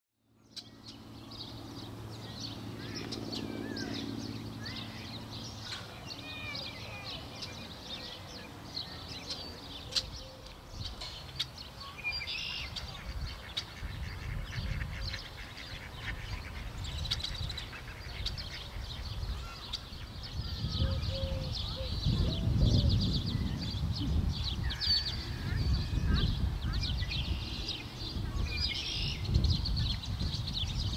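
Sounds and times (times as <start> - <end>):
small birds chirping: 0.4 - 30.9.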